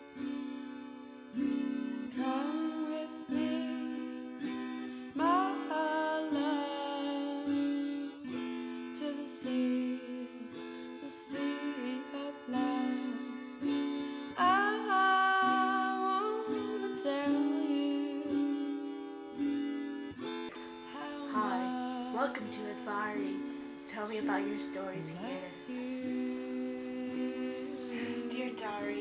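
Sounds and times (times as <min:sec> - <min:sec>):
plucked string instrument: 0:00.0 - 0:29.0.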